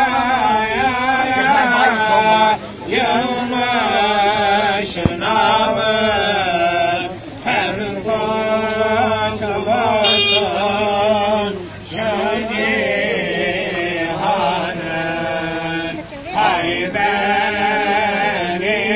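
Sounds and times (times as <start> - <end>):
men chanting a hymn: 0.0 - 18.9.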